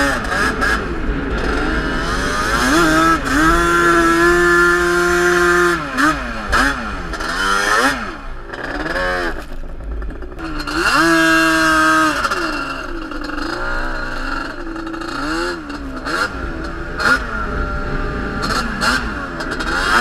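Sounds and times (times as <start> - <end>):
quad engine revving: 0.0 - 20.0.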